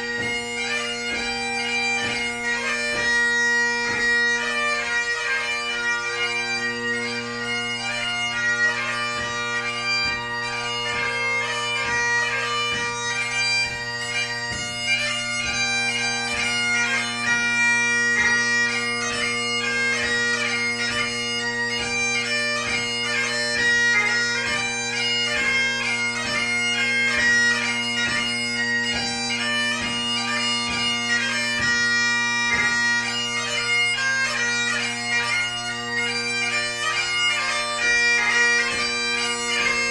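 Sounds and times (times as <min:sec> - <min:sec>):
bagpipe playing: 0:00.0 - 0:39.9.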